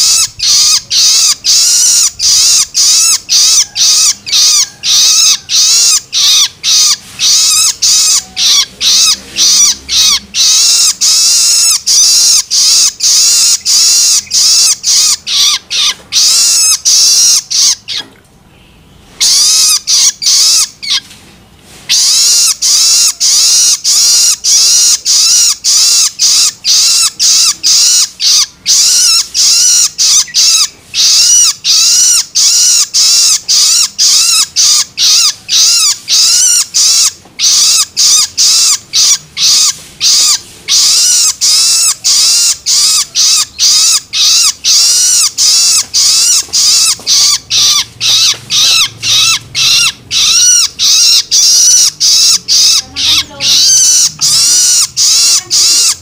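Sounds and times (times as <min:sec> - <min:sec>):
young bird begging calls: 0:00.0 - 0:18.1, 0:19.2 - 0:21.1, 0:21.9 - 0:56.0.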